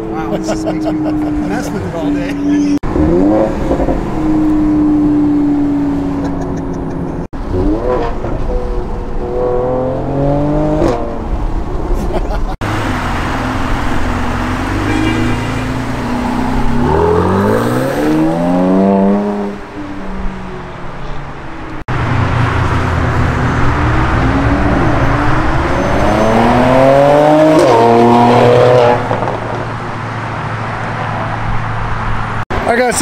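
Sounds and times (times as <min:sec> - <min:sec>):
car engine accelerating hard: 0:00.2 - 0:12.0, 0:12.6 - 0:20.4, 0:21.9 - 0:29.8.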